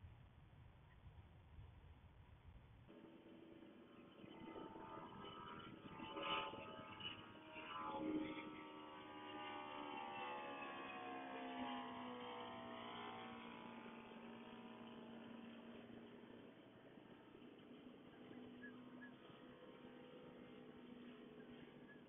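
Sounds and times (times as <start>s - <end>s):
motor drone falling in pitch: 2.9s - 22.0s.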